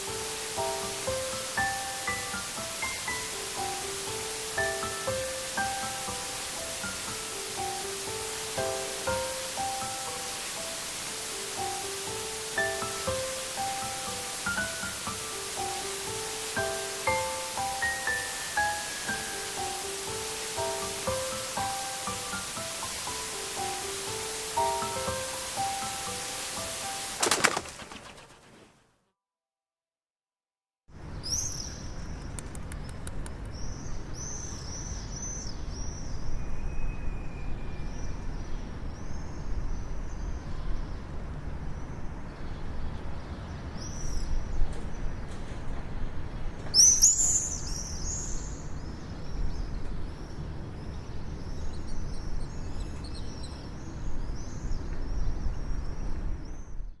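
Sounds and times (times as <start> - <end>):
small birds chirping: 0.0 - 28.6, 31.1 - 57.0.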